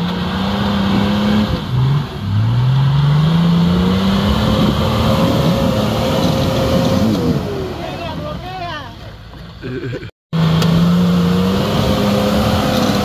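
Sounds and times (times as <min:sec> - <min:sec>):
off-road vehicle engine revving: 0:00.0 - 0:08.7, 0:09.6 - 0:13.0.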